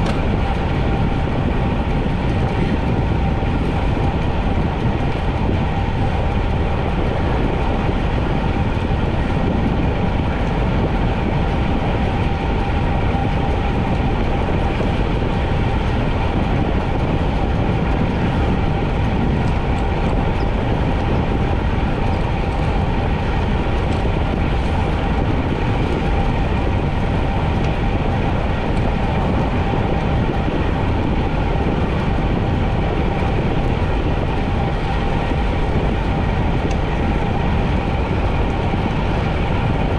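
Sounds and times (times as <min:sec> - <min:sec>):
rushing wind on microphone: 0:00.0 - 0:39.9
steady hum: 0:00.0 - 0:39.9.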